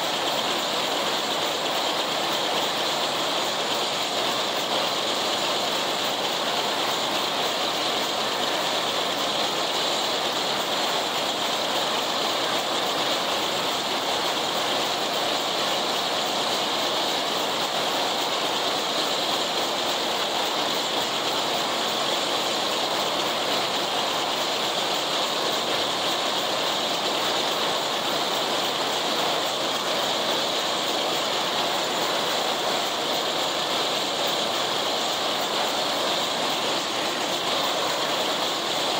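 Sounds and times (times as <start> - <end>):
mower-conditioner clatter: 0.0 - 38.9.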